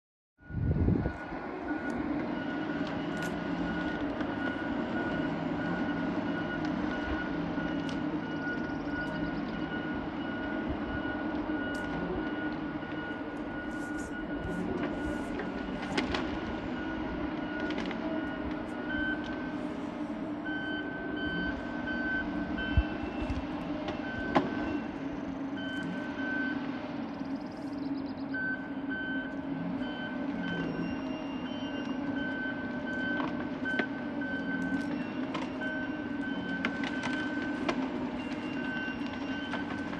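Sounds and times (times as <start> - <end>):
backup alarm beeping: 0.4 - 25.0, 28.3 - 39.9
diesel engines running: 0.4 - 39.9.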